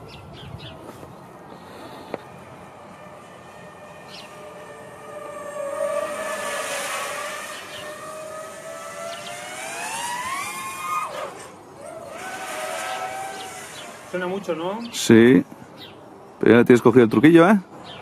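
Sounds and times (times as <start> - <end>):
drone propellers whining: 0.0 - 15.4.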